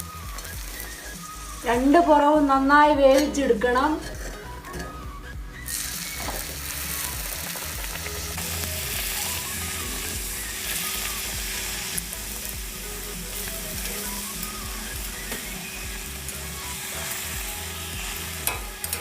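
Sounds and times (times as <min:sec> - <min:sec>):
dough sizzling in hot oil: 0:00.0 - 0:02.0, 0:05.6 - 0:19.0.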